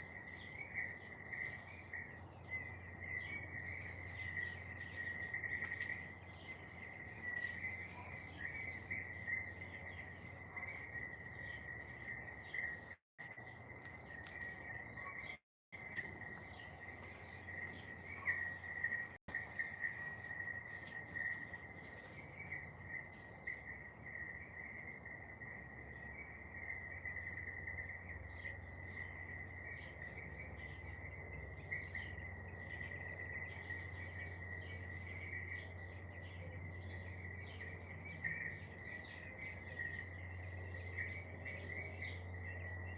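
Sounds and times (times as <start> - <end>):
insect drone: 0.0 - 15.2, 15.8 - 42.9
bird chirps: 0.0 - 42.9
low steady hum: 0.0 - 42.9.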